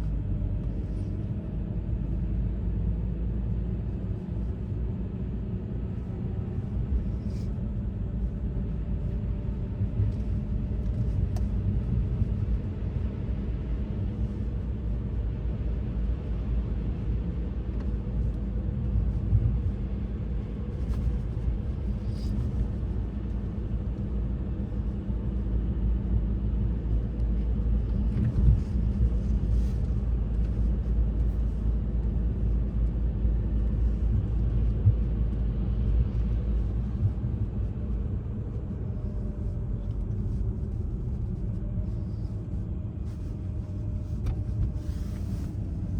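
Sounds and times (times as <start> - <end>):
vehicle engine rumble: 0.0 - 45.9.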